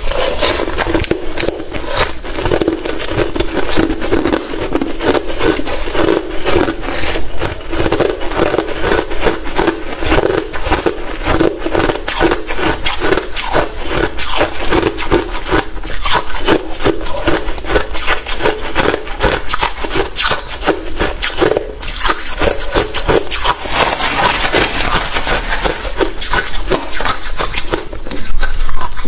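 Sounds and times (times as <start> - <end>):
person chewing ice: 0.0 - 29.0.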